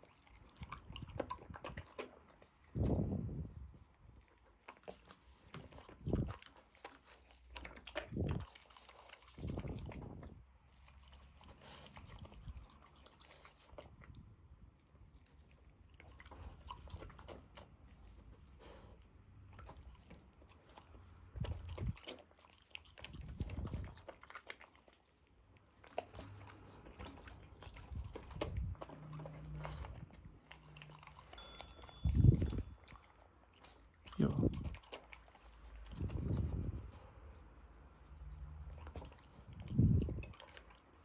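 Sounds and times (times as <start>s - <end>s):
dog chewing and crunching food: 0.0s - 41.0s.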